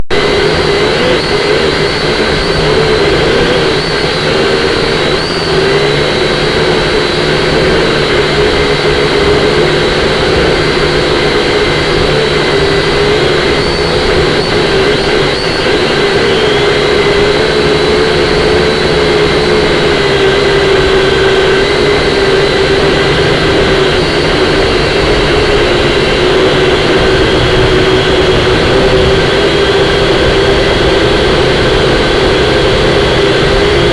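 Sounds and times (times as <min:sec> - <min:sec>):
drone motors whining: 0:00.0 - 0:33.9
wind buffeting microphone: 0:05.7 - 0:33.9.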